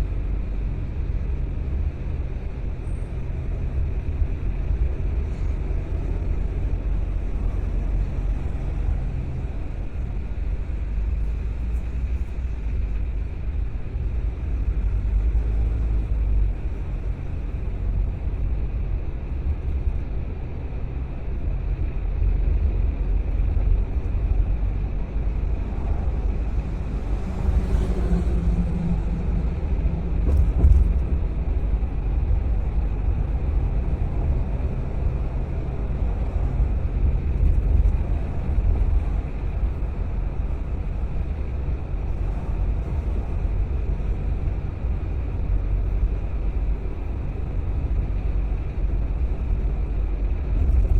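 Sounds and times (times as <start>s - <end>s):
engine and road rumble: 0.0s - 50.9s.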